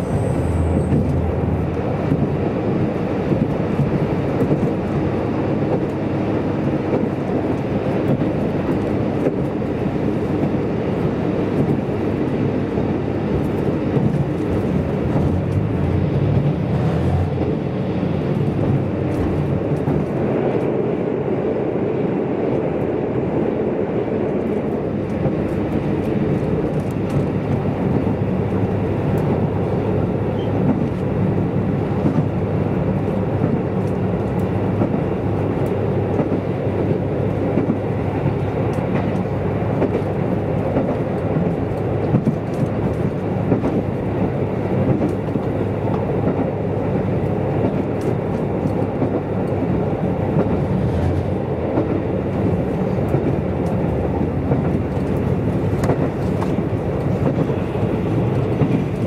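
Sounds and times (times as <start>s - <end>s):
train engine and wheels rumbling: 0.0s - 59.0s.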